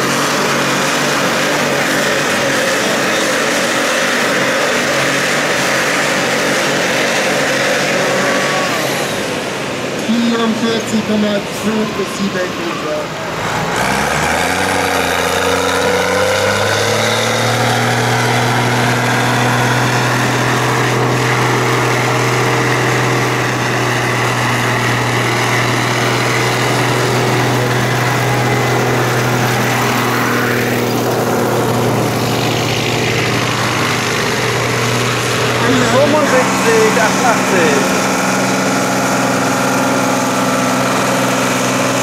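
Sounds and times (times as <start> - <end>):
tractor diesel engine revving: 0.0 - 42.0.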